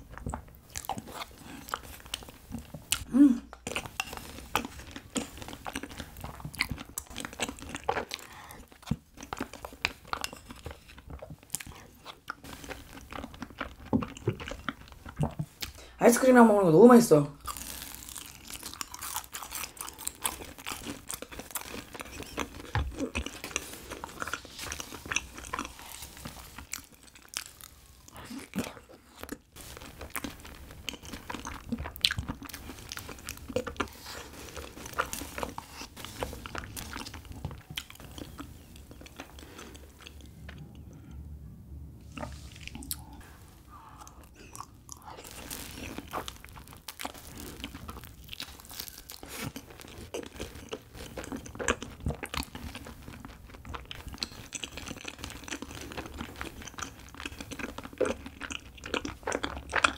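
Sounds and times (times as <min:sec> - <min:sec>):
chewing sticky food: 0:00.0 - 0:15.9, 0:17.4 - 0:40.9, 0:42.0 - 0:59.9.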